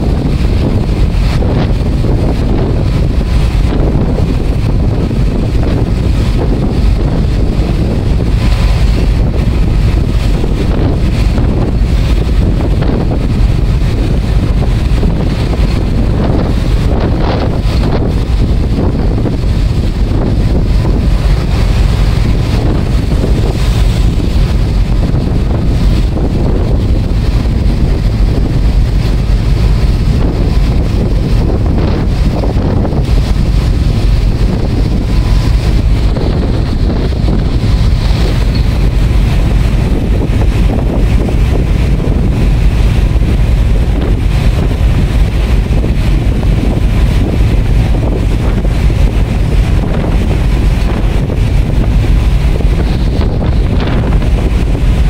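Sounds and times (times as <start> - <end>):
rushing water: 0.0 - 55.0
ship running noise: 0.0 - 55.0
wind buffeting microphone: 0.0 - 55.0.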